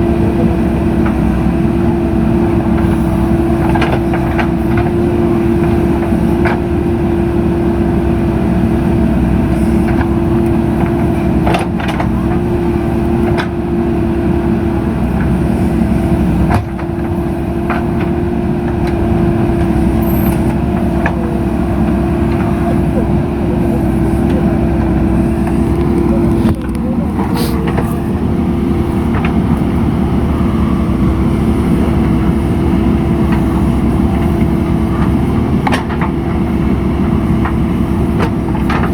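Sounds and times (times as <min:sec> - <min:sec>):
diesel engine running: 0:00.0 - 0:38.9
engine and hydraulics whine: 0:00.0 - 0:38.9.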